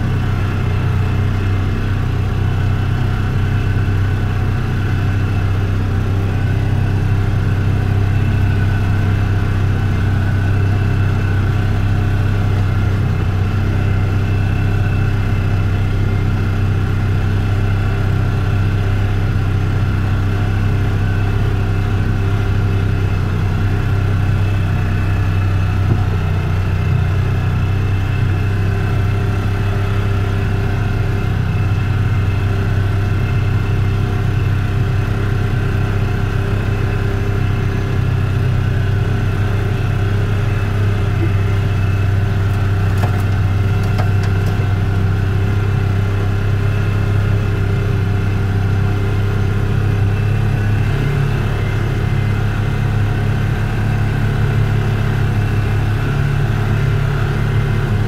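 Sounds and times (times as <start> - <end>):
utility vehicle engine droning: 0.0 - 58.0.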